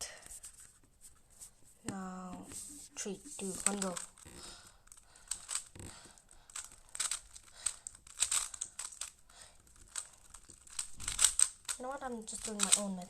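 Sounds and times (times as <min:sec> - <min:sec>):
puzzle cube layers clicking: 0:01.9 - 0:13.0.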